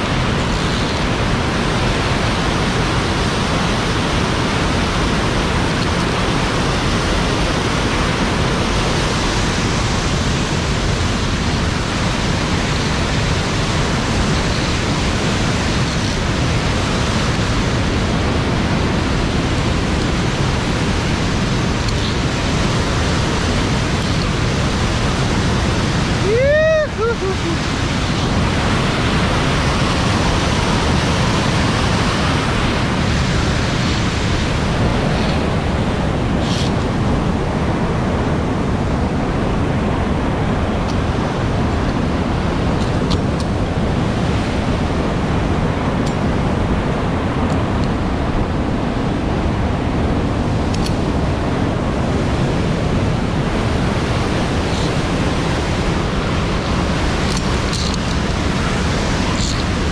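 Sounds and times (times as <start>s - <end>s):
waterfall roaring: 0.0s - 59.9s
wind buffeting microphone: 0.0s - 59.9s.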